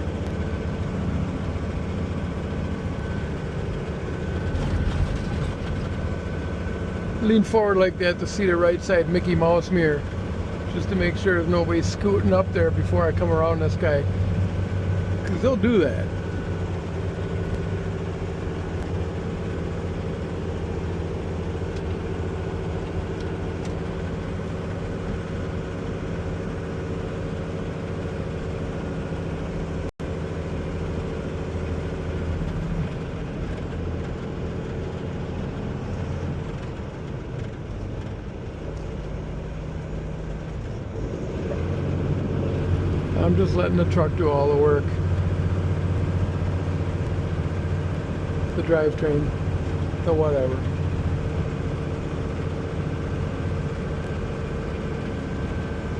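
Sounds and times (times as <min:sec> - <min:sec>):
truck diesel engine braking: 0:00.0 - 0:26.8, 0:31.7 - 0:55.9
road noise: 0:00.0 - 0:55.9.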